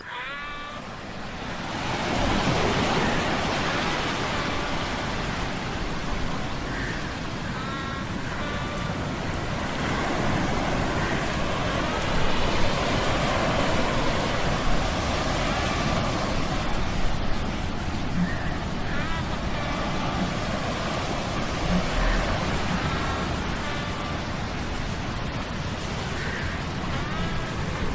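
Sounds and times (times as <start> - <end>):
surf roar: 0.0 - 27.9
wind: 0.0 - 27.9.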